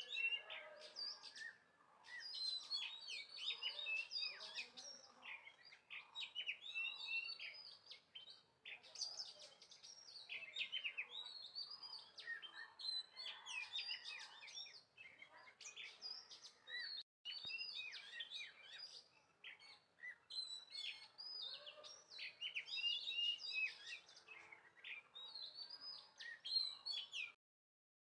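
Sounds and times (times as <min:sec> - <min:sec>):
small birds chirping: 0:00.0 - 0:27.4.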